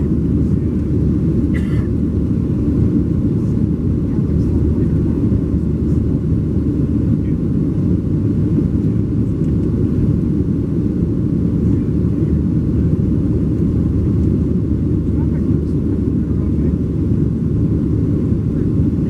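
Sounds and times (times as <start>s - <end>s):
jet engine low rumble in cabin: 0.0s - 19.0s.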